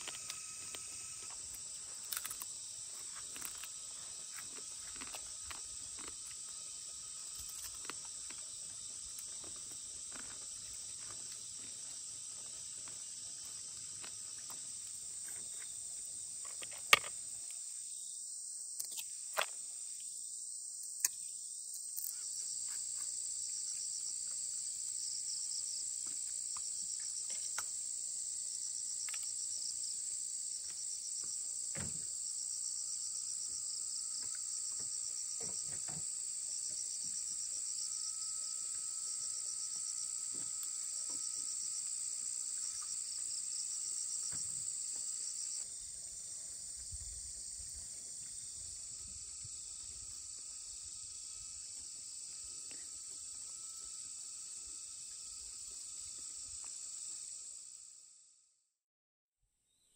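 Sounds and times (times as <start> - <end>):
insects chorus: 0.0 - 58.2.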